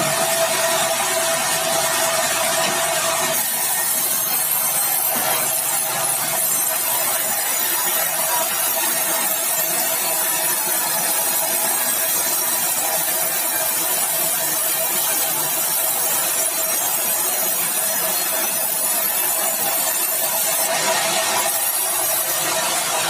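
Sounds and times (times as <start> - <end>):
saw cutting timber: 0.0 - 23.0.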